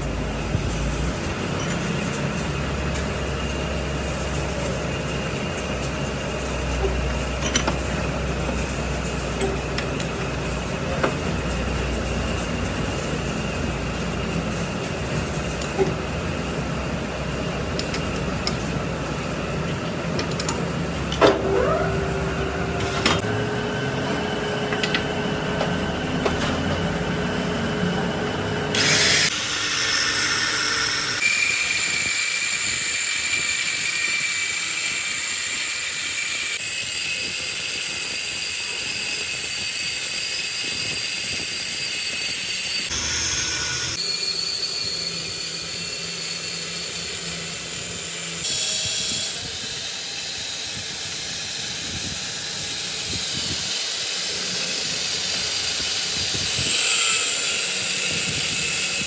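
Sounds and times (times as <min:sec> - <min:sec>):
metalworking machine and power tools: 0:00.0 - 0:59.0.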